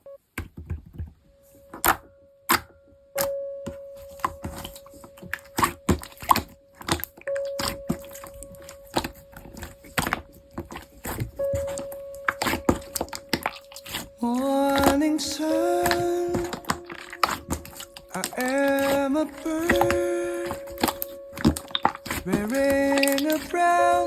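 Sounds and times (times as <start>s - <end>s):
slime squeezed by hand: 4.0s - 24.0s.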